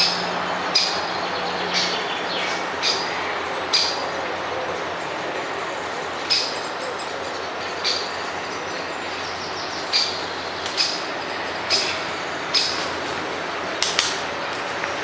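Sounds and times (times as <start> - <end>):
woodpecker alarm calls: 0.0 - 14.6
steady rushing background noise: 0.0 - 15.0.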